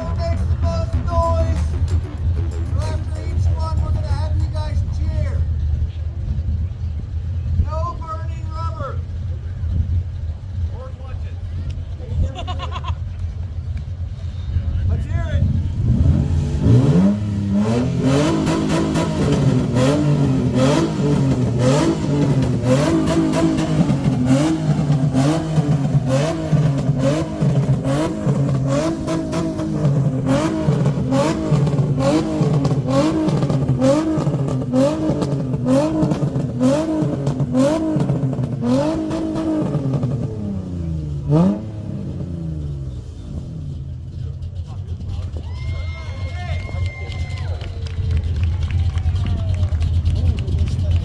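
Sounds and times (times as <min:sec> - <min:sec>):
car engine revving: 0:00.0 - 0:45.4, 0:47.1 - 0:51.0.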